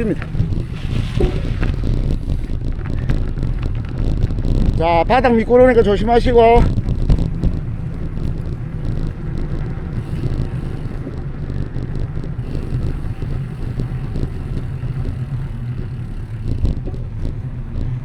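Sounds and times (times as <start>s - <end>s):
bicycle tyre noise: 0.0s - 18.0s
faint light rattles: 0.0s - 18.0s
wind rumble on microphone: 0.0s - 18.0s.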